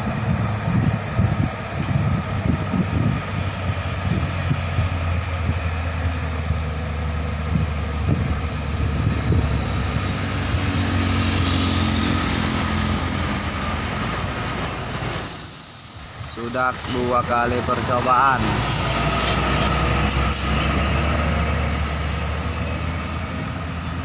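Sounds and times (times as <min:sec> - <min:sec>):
truck diesel engine climbing: 0:00.0 - 0:24.0.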